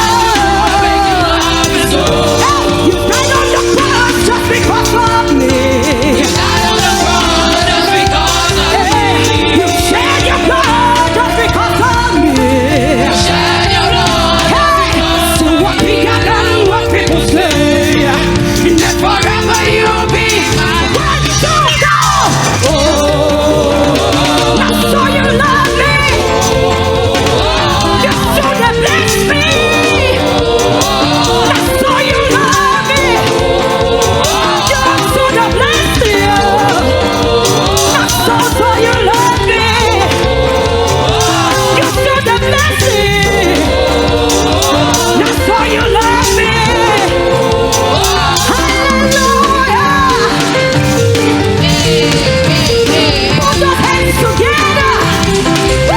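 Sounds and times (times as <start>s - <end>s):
band accompaniment: 0.0s - 55.9s
choir singing gospel song: 0.0s - 55.9s.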